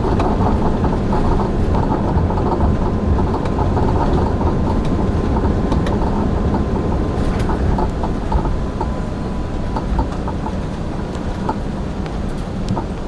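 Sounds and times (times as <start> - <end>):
loud steady rumble: 0.0 - 13.0.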